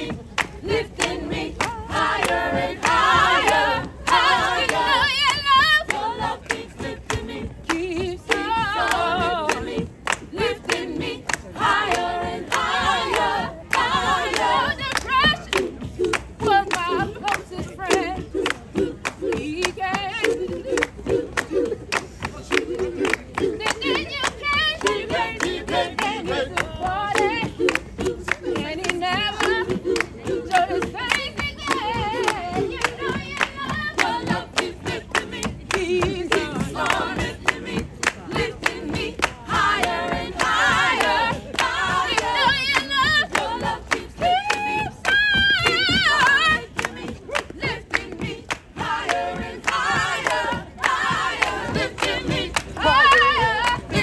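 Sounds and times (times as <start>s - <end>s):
gospel choir singing: 0.0s - 54.0s
hand clapping on the beat: 0.0s - 54.0s.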